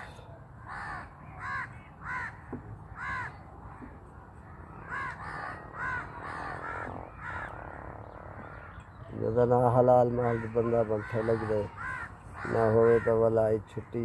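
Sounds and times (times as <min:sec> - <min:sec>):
crows cawing: 0:00.0 - 0:14.0.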